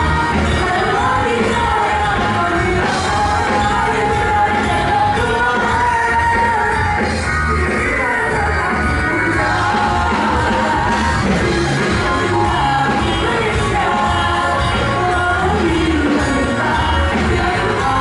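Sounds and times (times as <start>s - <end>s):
live pop-rock music with singing: 0.0s - 18.0s.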